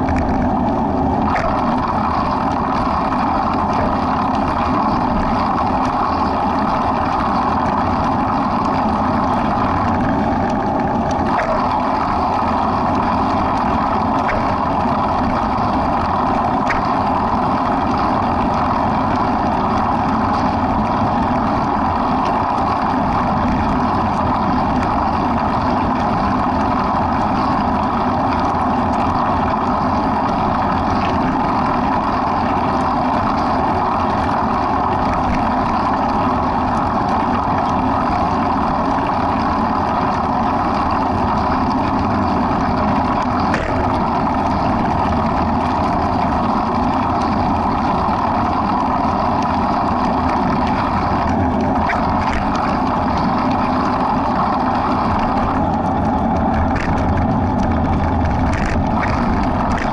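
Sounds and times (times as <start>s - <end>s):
road and wind noise: 0.0s - 59.9s
vehicle engine drone: 0.0s - 59.9s.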